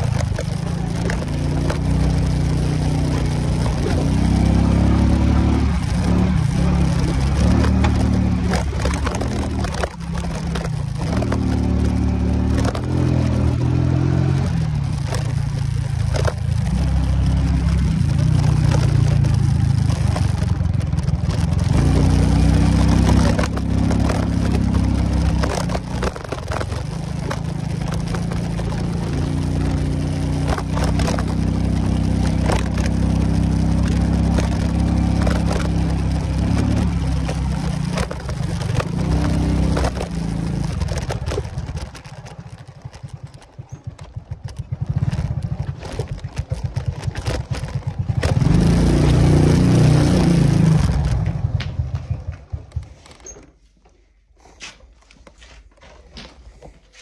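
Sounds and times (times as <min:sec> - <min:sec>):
tyres crunching on stones: 0:00.0 - 0:53.2
motorcycle engine running: 0:00.0 - 0:53.5.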